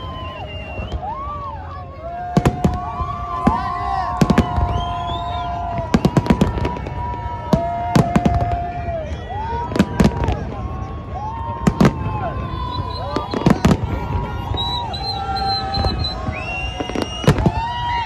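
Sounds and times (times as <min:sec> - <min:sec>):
fireworks bangs and crackles: 0:00.0 - 0:18.0
whistling fireworks: 0:00.0 - 0:18.0.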